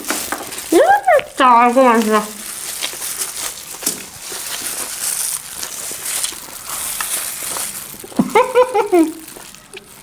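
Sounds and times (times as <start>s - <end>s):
crunchy chewing: 0.0s - 10.0s.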